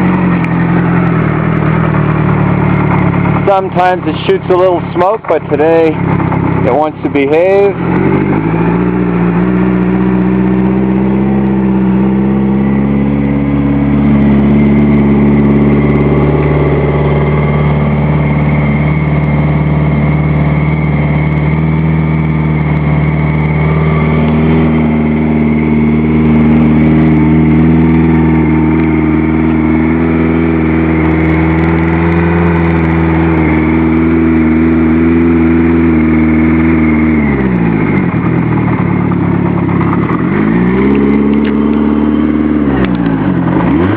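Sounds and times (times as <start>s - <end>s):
motorcycle engine fast idling: 0.0s - 43.9s.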